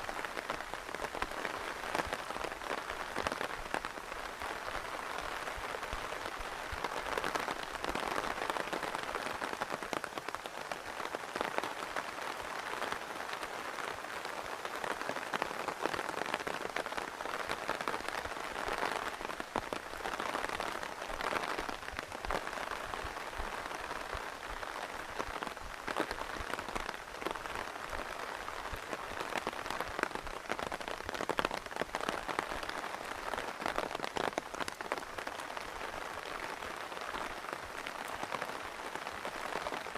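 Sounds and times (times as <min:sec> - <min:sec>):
raindrops ticking and pattering: 0:00.0 - 0:39.9
steady rain hiss: 0:00.0 - 0:39.9.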